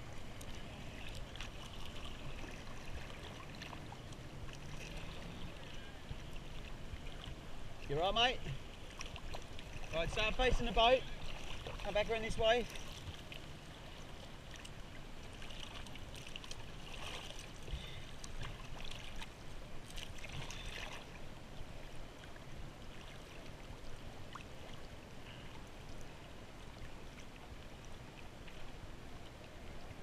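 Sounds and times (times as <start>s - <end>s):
small waves lapping: 0.0s - 30.0s.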